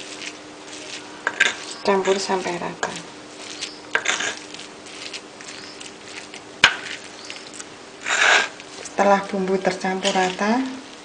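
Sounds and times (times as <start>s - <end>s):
pestle scraping and squishing: 0.0s - 10.6s.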